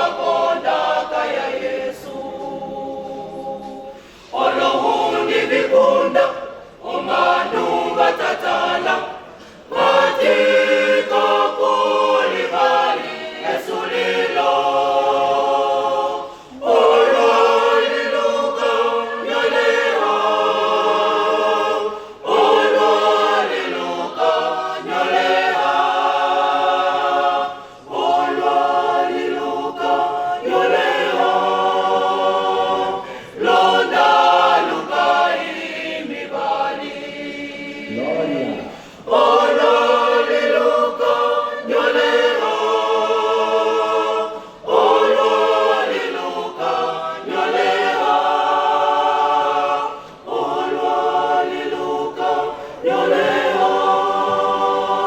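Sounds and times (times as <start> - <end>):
choir singing unaccompanied: 0.0 - 55.0.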